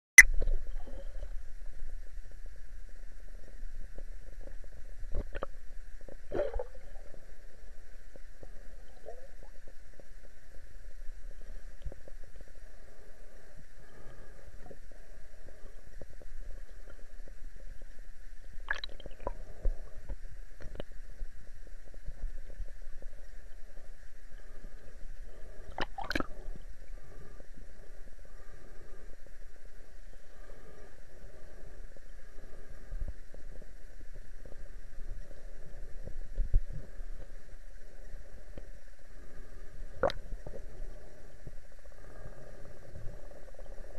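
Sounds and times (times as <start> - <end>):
underwater rumble and hiss: 0.3 - 43.9.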